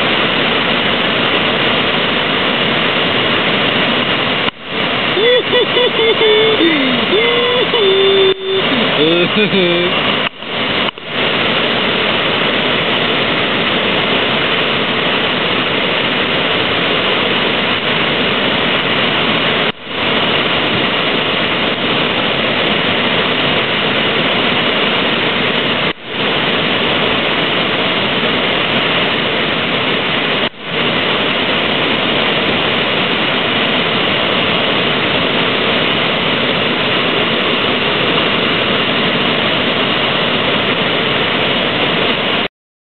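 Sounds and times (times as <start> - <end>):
rushing whitewater: 0.0 - 42.5.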